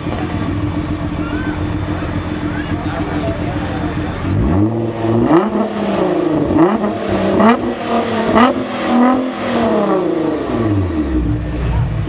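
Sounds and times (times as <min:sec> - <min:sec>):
car engine idling: 0:00.0 - 0:12.0
car engine revving: 0:00.0 - 0:12.0.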